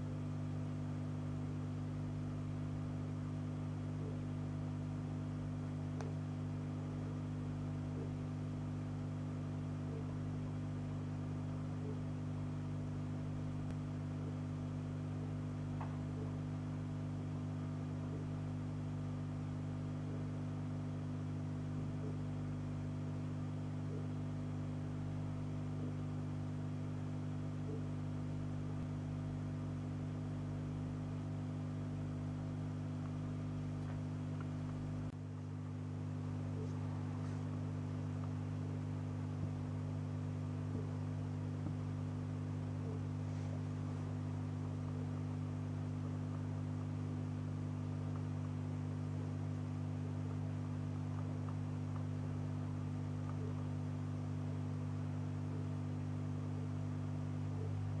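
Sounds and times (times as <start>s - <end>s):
low electrical hum: 0.0s - 58.0s
constant hiss: 5.6s - 58.0s.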